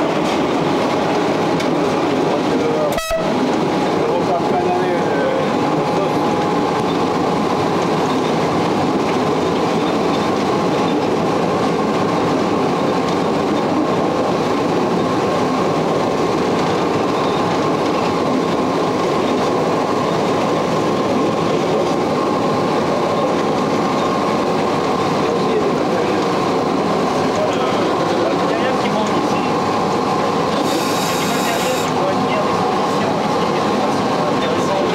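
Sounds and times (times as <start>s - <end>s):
train running gear rumbling: 0.0s - 34.9s.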